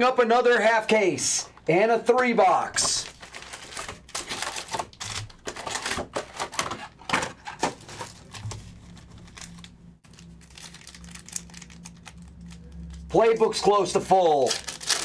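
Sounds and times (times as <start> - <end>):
foil packs crinkling: 2.8 - 15.0.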